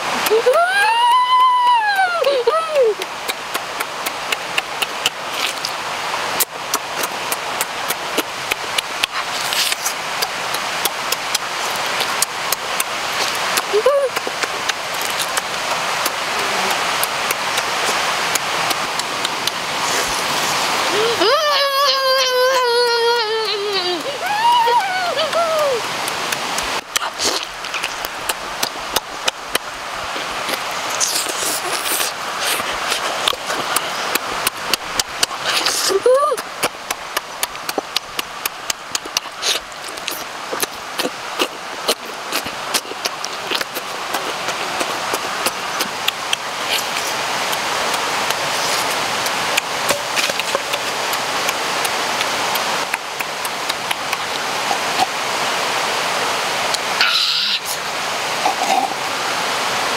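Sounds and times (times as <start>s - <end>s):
steady hiss: 0.0s - 59.9s
mouth clicks: 2.2s - 5.8s, 6.4s - 55.2s, 56.7s - 57.8s, 58.4s - 59.0s
wet chewing and sucking: 3.0s - 5.8s, 6.4s - 21.2s, 25.3s - 55.2s, 58.4s - 59.0s.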